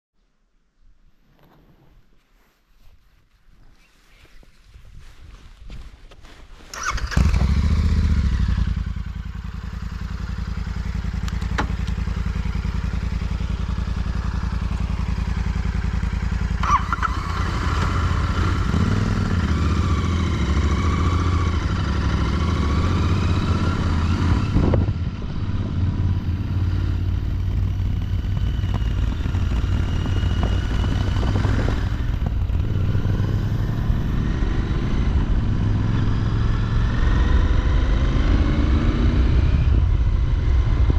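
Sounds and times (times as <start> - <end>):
motorcycle engine running: 6.7 - 40.9.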